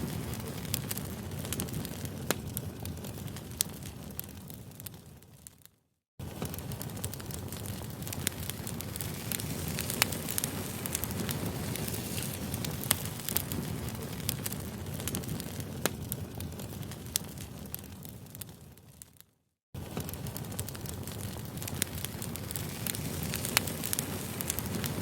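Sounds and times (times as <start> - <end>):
low rush of flame: 0.0 - 5.2, 6.2 - 18.8, 19.8 - 25.0
campfire crackling and popping: 0.0 - 25.0.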